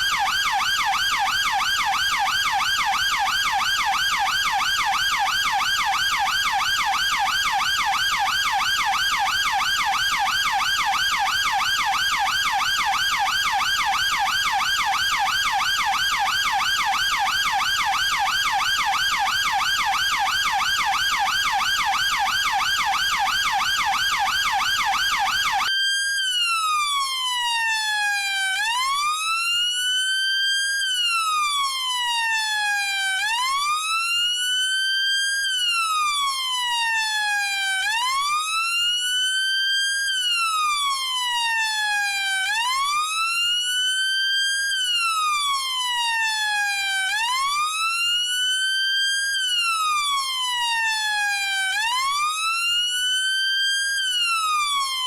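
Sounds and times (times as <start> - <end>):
police car siren: 0.0 - 55.0.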